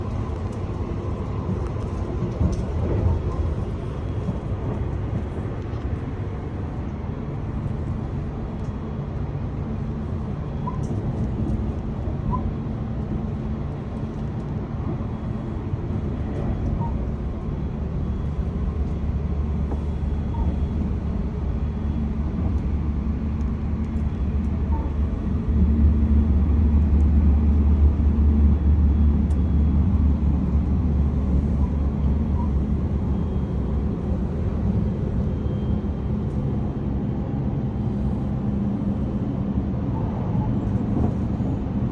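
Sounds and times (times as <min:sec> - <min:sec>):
train rumbling on rails: 0:00.0 - 0:41.9.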